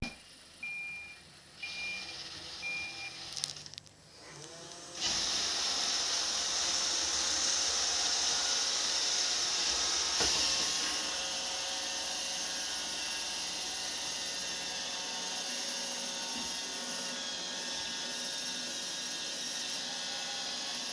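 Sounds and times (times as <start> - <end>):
robot vacuum motors whirring: 1.6 - 20.9.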